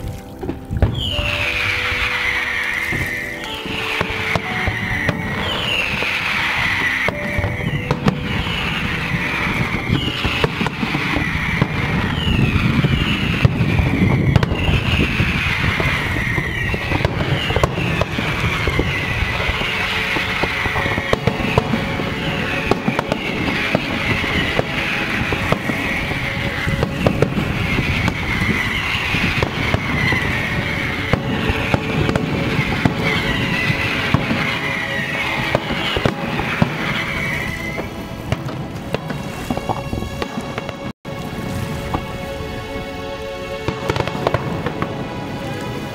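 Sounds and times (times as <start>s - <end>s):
fireworks crackling and booming: 0.0s - 45.9s
high falling whistle: 0.8s - 40.2s.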